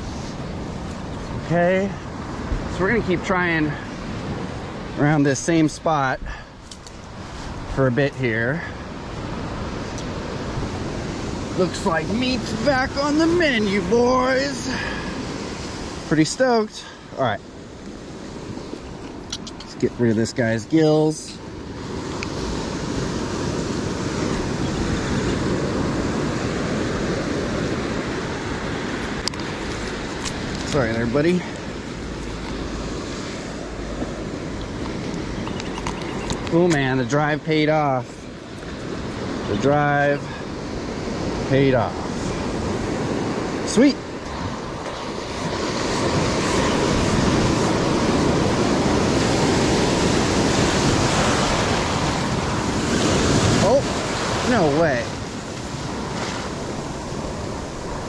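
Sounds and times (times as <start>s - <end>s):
ocean surf rushing: 0.0s - 58.0s
wind buffeting microphone: 6.2s - 20.6s, 21.4s - 58.0s.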